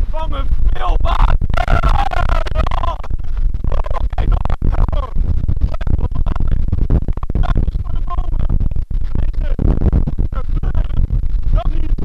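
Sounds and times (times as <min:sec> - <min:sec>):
rumbling rushing noise with crackles: 0:00.0 - 0:12.0.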